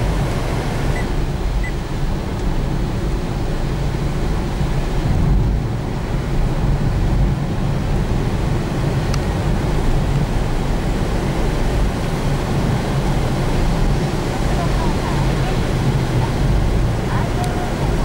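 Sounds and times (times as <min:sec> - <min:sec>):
heavy rain on car roof: 0:00.0 - 0:18.0.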